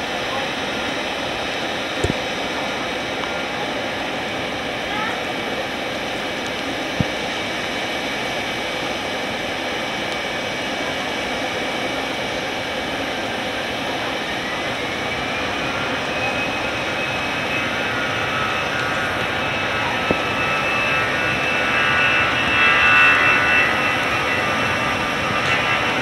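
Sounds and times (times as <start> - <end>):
jet engines spooling up: 0.0 - 26.0.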